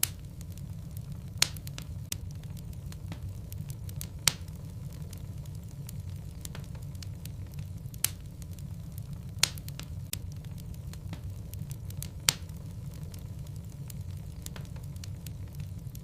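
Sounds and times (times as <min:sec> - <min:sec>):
fire rumbling and crackling: 0:00.0 - 0:16.0
sharp fire pops: 0:00.0 - 0:16.0.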